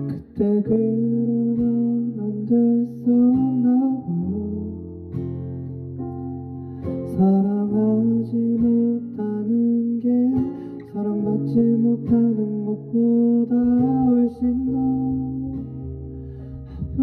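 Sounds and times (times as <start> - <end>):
slow acoustic guitar music: 0.0 - 17.0.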